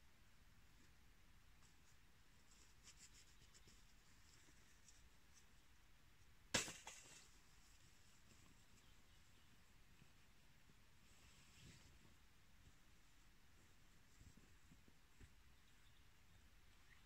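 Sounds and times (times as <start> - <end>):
faint ticks and rustles: 0.4 - 17.0.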